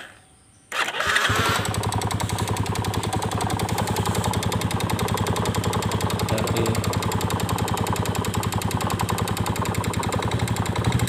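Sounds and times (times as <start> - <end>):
motorcycle engine cranking and idling: 0.0 - 11.0
rapid even engine ticking: 0.8 - 11.0.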